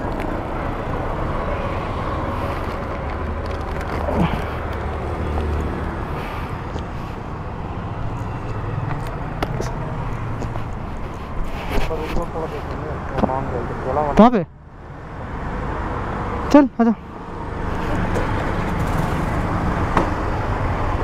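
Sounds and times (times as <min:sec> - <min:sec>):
street traffic rumble: 0:00.0 - 0:21.0
vehicle passing: 0:00.0 - 0:21.0.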